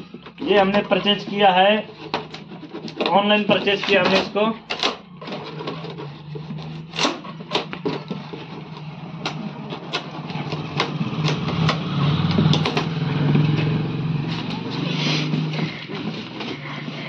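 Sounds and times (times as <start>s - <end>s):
knife cutting plastic straps: 0.0s - 17.0s.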